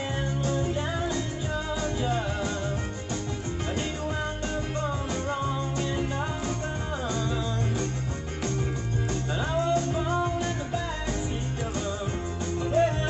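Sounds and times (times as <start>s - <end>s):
rock song over loudspeakers: 0.0s - 13.0s.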